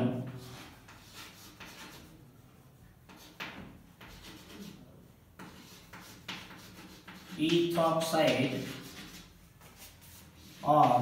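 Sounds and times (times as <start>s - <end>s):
chalk scratching on blackboard: 0.1s - 2.2s, 3.0s - 11.0s.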